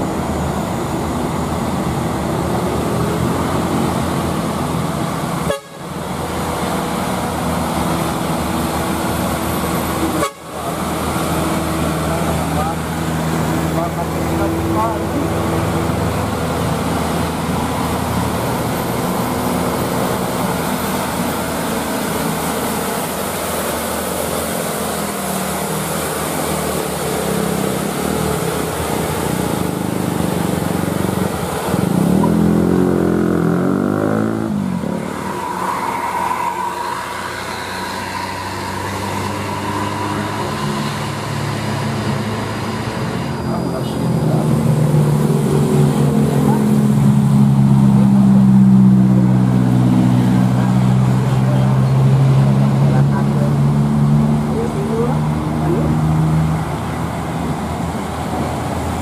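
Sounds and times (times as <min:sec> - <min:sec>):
diesel truck engines climbing: 0:00.0 - 0:59.0
high whine: 0:00.0 - 0:59.0
louder engine passing close: 0:00.0 - 0:59.0
road noise: 0:00.0 - 0:59.0.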